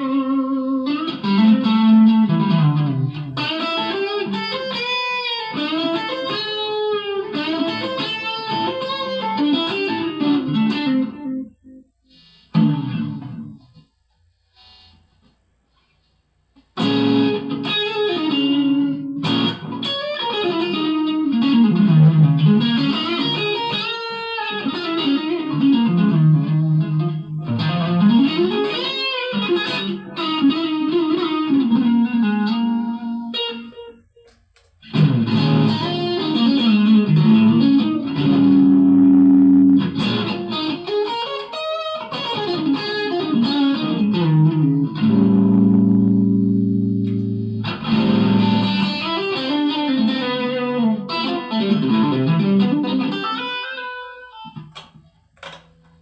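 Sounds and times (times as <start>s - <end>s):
electric guitar sliding melody: 0.0s - 13.6s, 16.8s - 34.0s, 34.8s - 55.0s.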